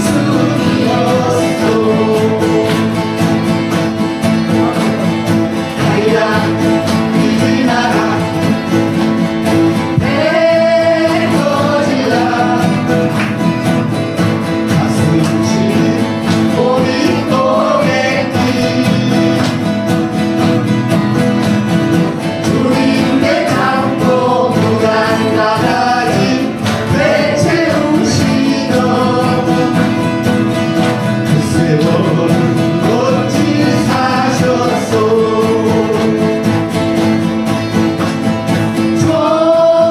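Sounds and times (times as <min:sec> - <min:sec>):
acoustic guitars strumming: 0:00.0 - 0:39.9.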